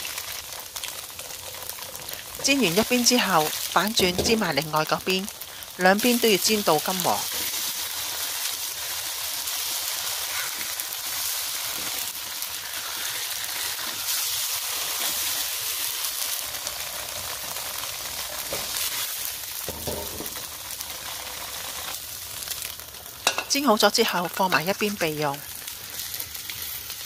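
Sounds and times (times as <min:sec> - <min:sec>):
tofu sizzling in oil: 0:00.0 - 0:27.0.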